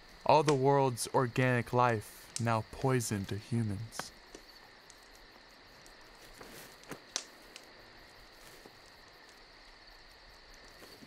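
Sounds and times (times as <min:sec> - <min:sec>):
campfire crackling and popping: 0:00.0 - 0:11.0
night insects droning: 0:00.0 - 0:11.0.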